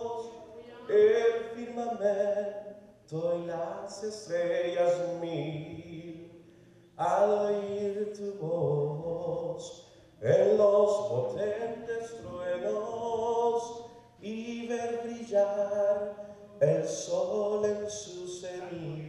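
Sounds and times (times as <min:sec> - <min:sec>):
man singing unaccompanied: 0:00.0 - 0:06.4, 0:07.0 - 0:19.0.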